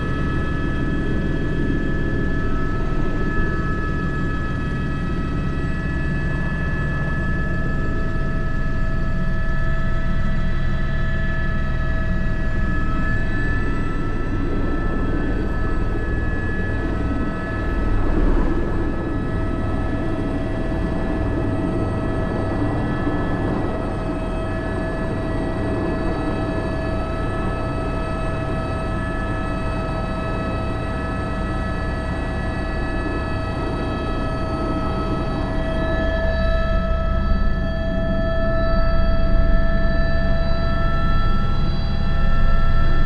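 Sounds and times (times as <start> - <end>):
helicopter turbine whine: 0.0 - 43.0
low rumble of rotor: 0.0 - 43.0.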